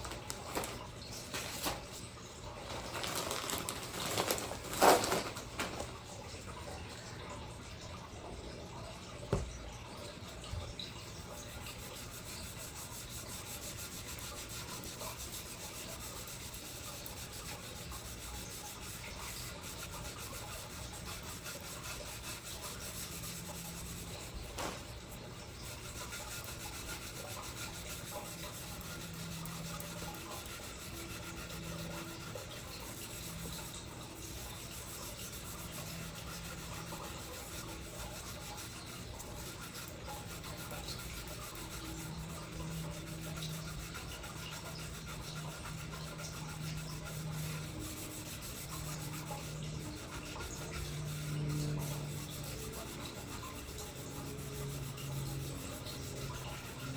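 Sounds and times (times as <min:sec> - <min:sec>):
hand scrubbing on metal: 0:10.0 - 0:56.9.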